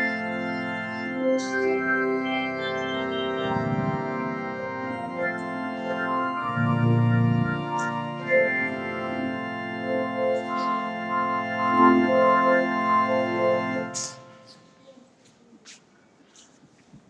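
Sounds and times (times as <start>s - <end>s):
organ music: 0.0s - 14.8s.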